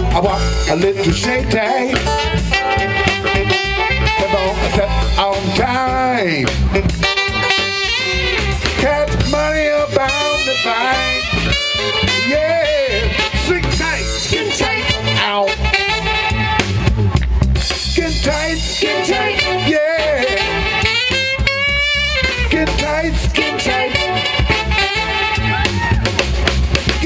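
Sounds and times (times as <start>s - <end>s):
drum kit beat: 0.0s - 27.0s
saxophones playing: 0.0s - 27.0s.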